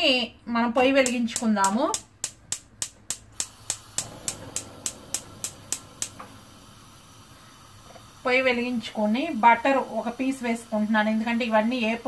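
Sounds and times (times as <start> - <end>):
gas stove igniter clicking: 0.8 - 12.0
gas flame hissing: 1.0 - 12.0.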